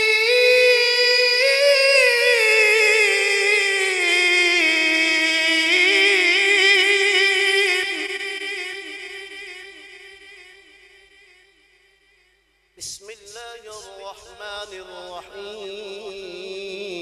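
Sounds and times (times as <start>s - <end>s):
man chanting through microphone: 0.0s - 11.5s, 12.8s - 17.0s.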